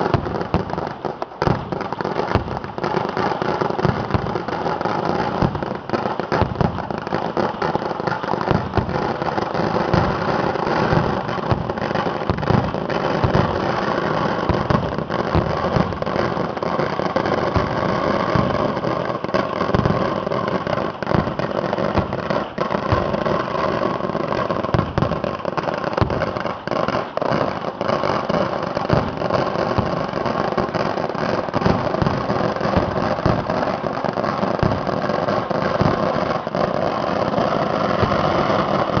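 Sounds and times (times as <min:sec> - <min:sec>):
firecracker bangs and crackling: 0:00.0 - 0:39.0.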